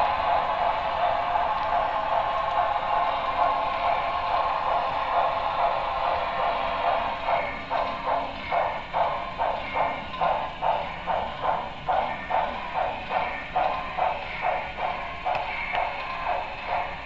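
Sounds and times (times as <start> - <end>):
steam hiss: 0.0 - 17.0
steam locomotive exhaust chuffs: 0.0 - 17.0.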